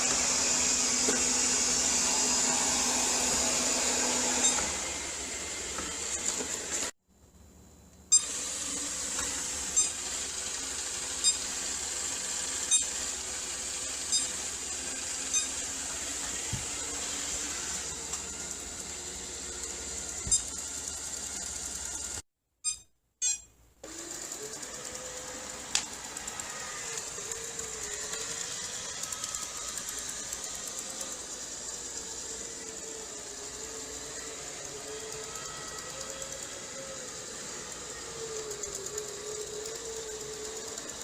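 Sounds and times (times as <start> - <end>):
robot vacuum cleaner whirring: 0.0 - 7.0, 8.1 - 22.2, 23.8 - 41.0.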